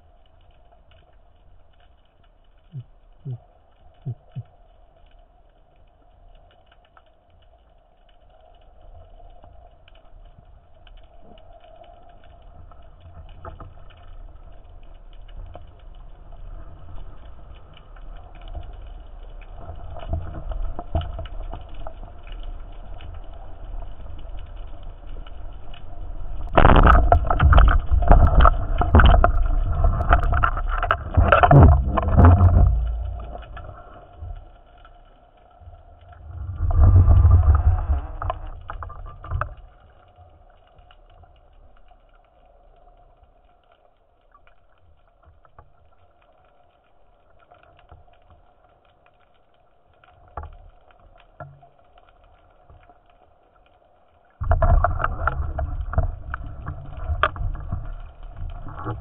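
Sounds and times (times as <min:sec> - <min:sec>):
churning water underwater: 0:00.0 - 0:59.0
faint steady hum: 0:00.0 - 0:59.0.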